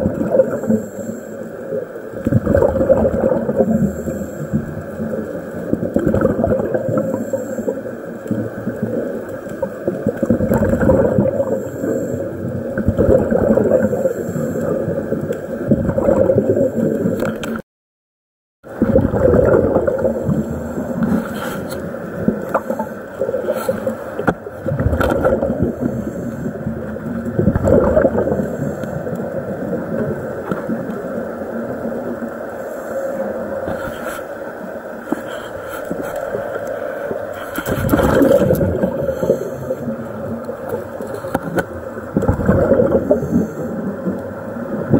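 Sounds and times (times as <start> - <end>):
muffled underwater gurgling: 0.0 - 17.6, 18.6 - 44.9.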